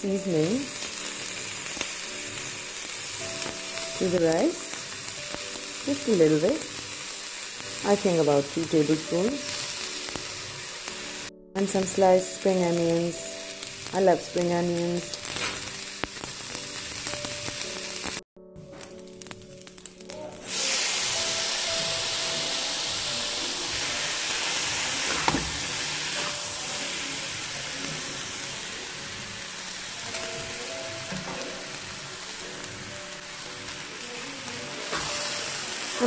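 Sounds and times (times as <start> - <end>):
rice sizzling in a wok: 0.0 - 36.0.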